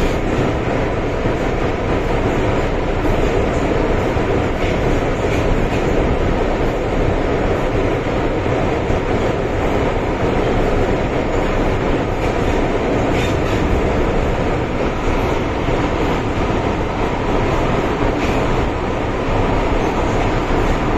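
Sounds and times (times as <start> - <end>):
train rumble inside car: 0.0 - 20.9.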